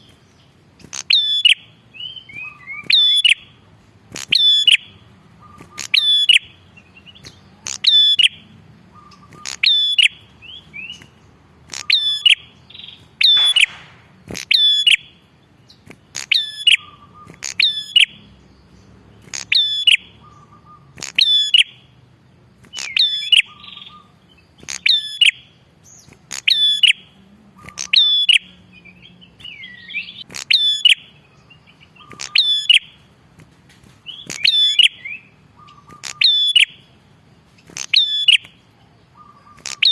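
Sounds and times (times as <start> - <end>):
bird singing sharp calls: 0.0 - 33.2, 33.8 - 39.9.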